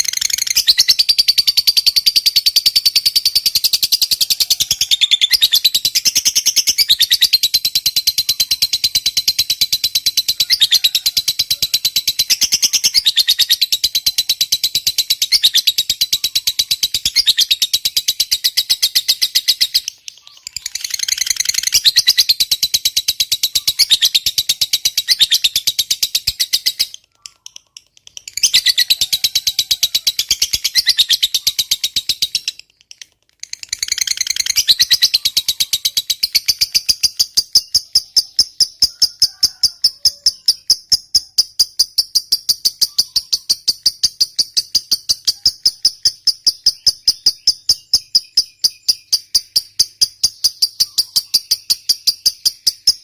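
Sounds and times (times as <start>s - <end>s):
lovebird shrill chattering trill: 0.0s - 53.0s.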